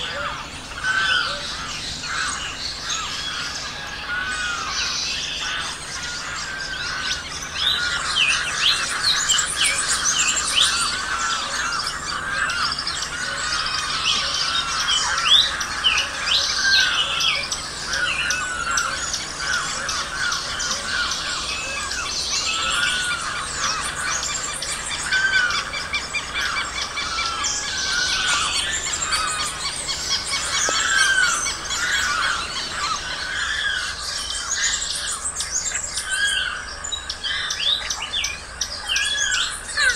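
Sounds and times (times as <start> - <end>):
chorus of wetland birds: 0.0 - 39.9.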